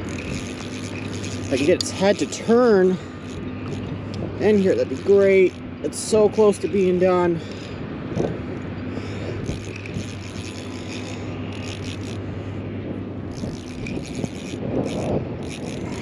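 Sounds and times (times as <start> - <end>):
fishing reel clicking: 0.0 - 8.3, 9.0 - 12.3, 13.3 - 16.0
low hum: 0.0 - 16.0
wind noise on microphone: 0.0 - 16.0.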